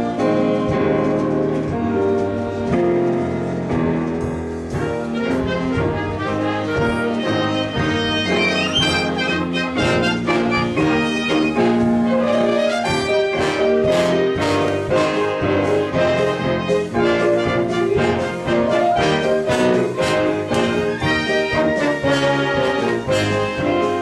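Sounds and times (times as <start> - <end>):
band and orchestra playing: 0.0 - 24.0
trumpets and trombones chords: 0.0 - 24.0.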